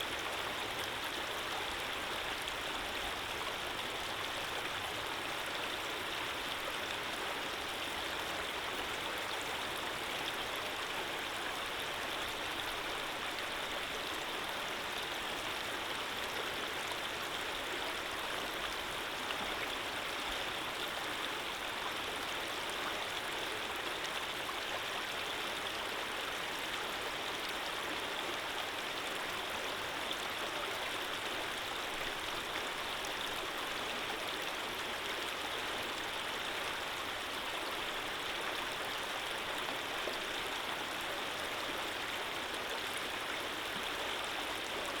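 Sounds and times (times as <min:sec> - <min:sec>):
stream flowing: 0:00.0 - 0:45.0.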